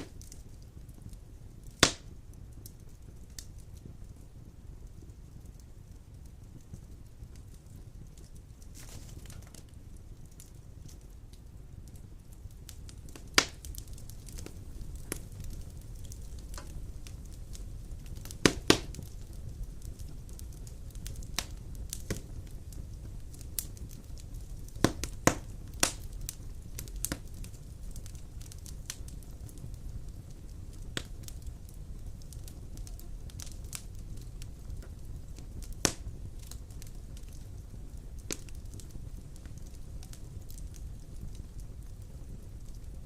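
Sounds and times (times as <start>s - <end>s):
loud pops from fire: 0.0s - 43.0s
wood fire crackling: 0.0s - 43.0s.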